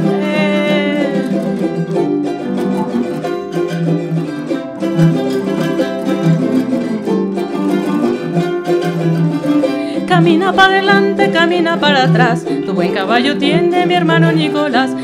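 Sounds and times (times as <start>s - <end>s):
person singing: 0.0s - 4.3s, 5.2s - 15.0s
acoustic guitars: 0.0s - 15.0s
jarana strumming: 0.0s - 15.0s.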